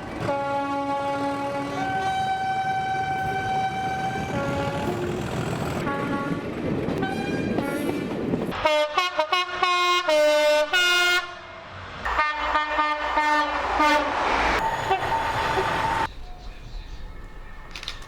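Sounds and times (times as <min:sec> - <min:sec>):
moving train rumble: 0:00.0 - 0:18.0
train horns: 0:00.1 - 0:16.1.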